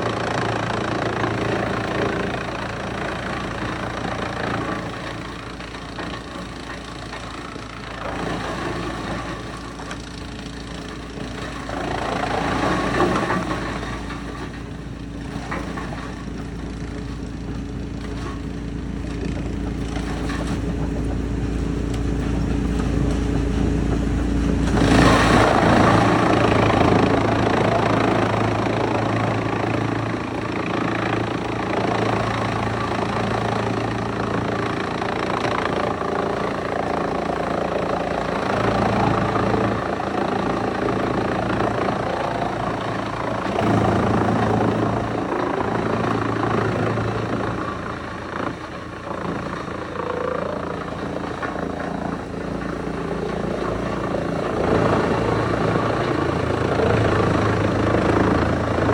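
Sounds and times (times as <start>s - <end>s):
wood chipper running: 0.0s - 58.9s.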